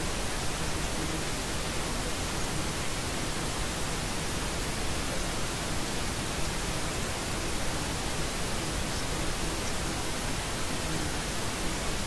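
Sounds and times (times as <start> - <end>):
white noise hiss: 0.0 - 12.0.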